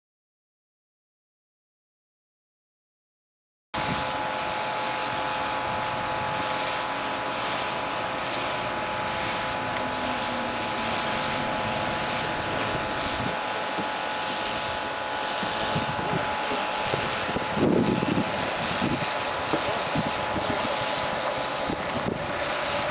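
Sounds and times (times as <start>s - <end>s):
constant whine: 3.8s - 22.9s
vehicle engine running: 4.0s - 22.9s.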